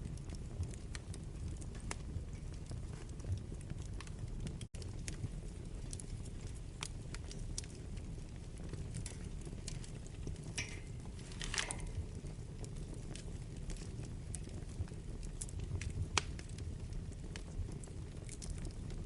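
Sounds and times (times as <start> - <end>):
fire crackles and pops: 0.0 - 19.0
fire low rumble: 0.0 - 19.0.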